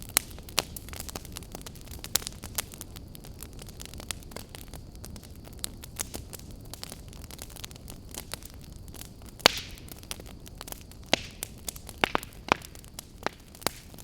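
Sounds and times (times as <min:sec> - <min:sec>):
campfire crackling: 0:00.0 - 0:14.0
fire pops and snaps: 0:00.0 - 0:14.0.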